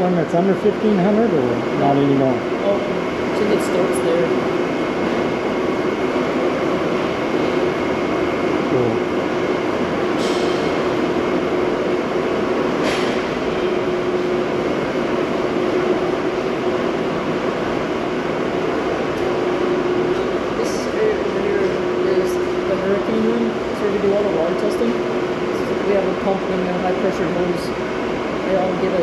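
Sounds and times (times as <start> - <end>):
ventilation hum and rushing: 0.0 - 29.0.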